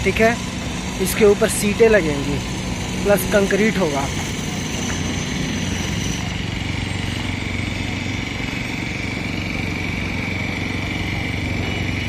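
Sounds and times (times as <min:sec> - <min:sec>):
engine running: 0:00.0 - 0:12.0
thin steady whine: 0:00.0 - 0:12.0.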